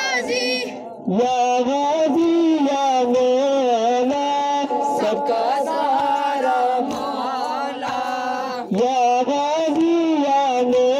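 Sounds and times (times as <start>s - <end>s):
voices singing a mourning chant: 0.0s - 10.9s.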